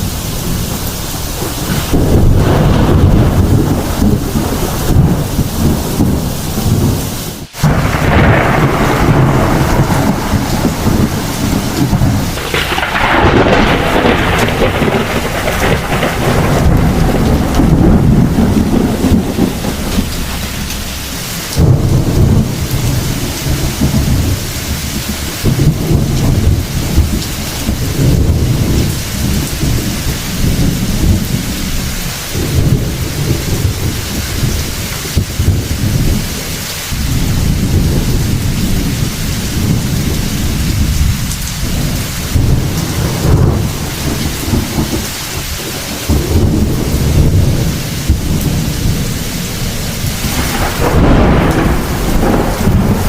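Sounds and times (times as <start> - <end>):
heavy rain falling: 0.0 - 53.0
thunder rumbling: 0.0 - 53.0.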